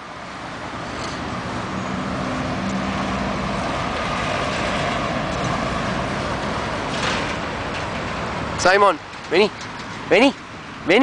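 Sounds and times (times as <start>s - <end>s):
road rumble: 0.0s - 11.0s
vehicle engine hum: 0.0s - 11.0s.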